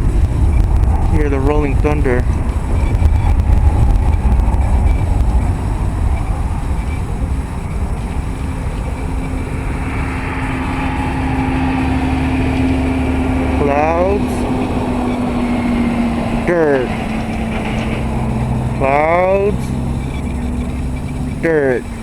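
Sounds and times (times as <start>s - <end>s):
rolling thunder: 0.0s - 21.4s
steady low hum: 0.0s - 22.0s
wind buffeting microphone: 0.0s - 22.0s.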